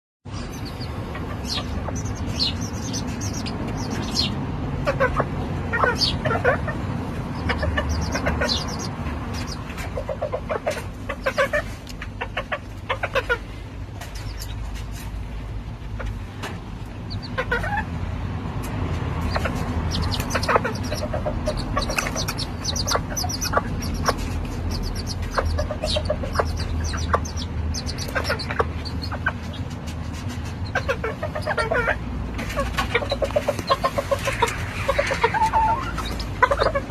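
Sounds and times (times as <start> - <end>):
chicks peeping: 0.3 - 36.9
low steady rumble: 0.3 - 36.9
hen clucking: 0.4 - 36.9.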